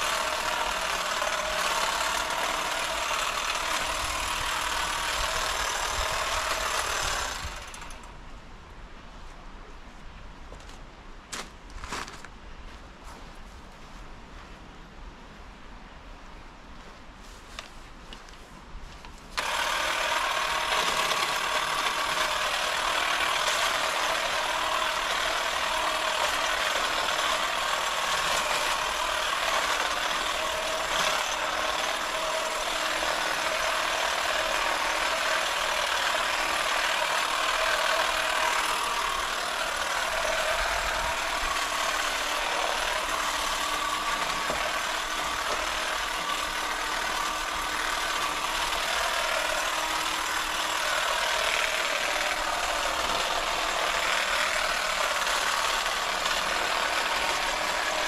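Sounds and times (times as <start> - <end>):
hedge trimmer motor whine: 0.0 - 8.1, 19.4 - 58.0.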